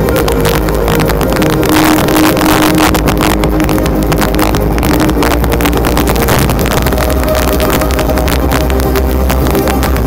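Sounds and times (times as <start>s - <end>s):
fireworks bangs and crackles: 0.0s - 10.0s
low rumble: 0.0s - 10.0s
show music: 0.0s - 10.0s.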